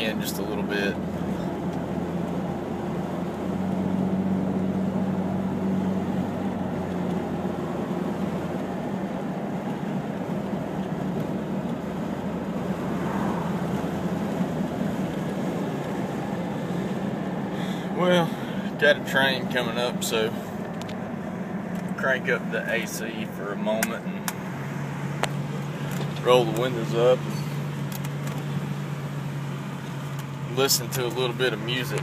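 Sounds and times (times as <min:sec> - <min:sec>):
low exhaust drone: 0:00.0 - 0:32.0
road and wind noise: 0:00.0 - 0:32.0.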